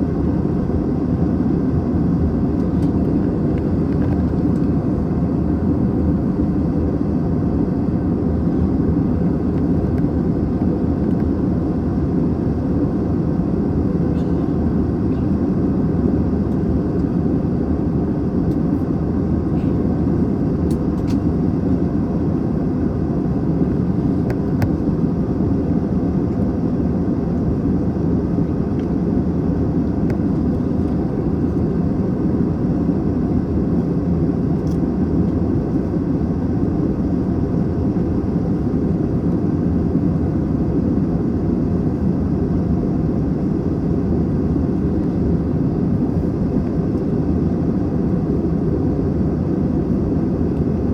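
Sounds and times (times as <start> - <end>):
airplane cabin engine roar: 0.0 - 50.9.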